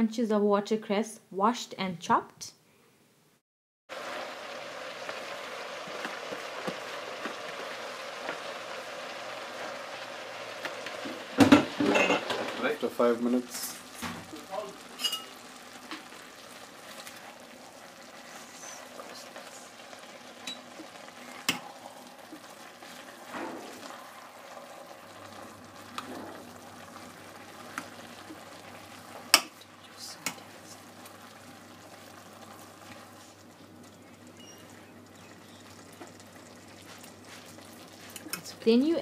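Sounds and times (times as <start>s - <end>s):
greens sizzling in oil: 3.9s - 39.0s.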